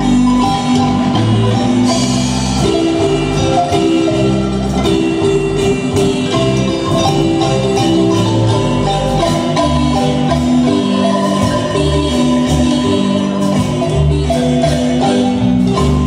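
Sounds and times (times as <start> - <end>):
light percussion: 0.0 - 16.0
marimba band playing: 0.0 - 16.0.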